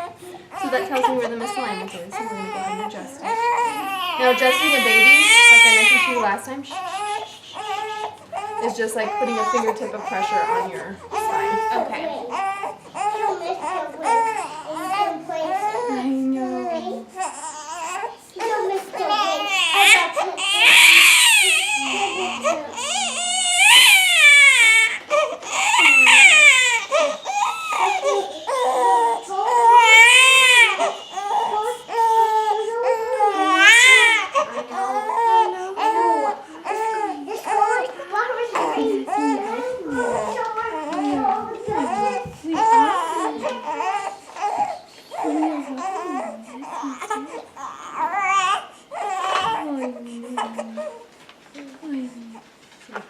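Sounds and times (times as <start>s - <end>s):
baby crying: 0.0s - 51.1s.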